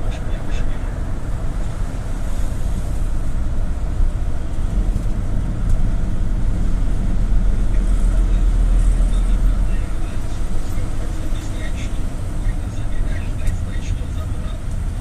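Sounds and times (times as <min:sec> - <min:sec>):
minibus engine and road rumble: 0:00.0 - 0:15.0.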